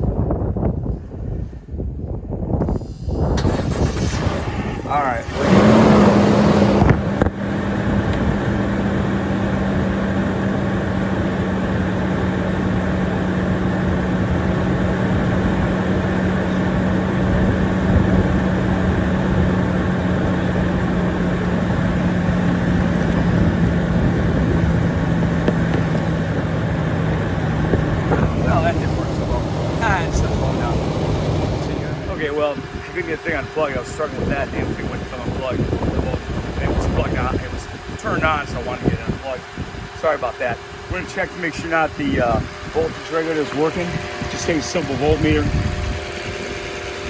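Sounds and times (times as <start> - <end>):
car engine idling: 2.7 - 47.0.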